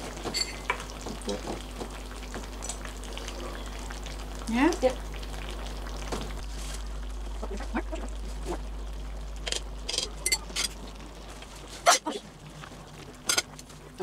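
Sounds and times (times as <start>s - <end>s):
faint simmering: 0.0s - 14.0s
low hum: 1.5s - 14.0s.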